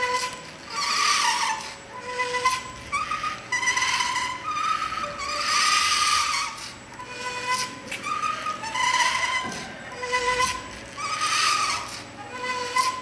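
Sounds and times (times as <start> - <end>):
robot motors whining: 0.0 - 13.0.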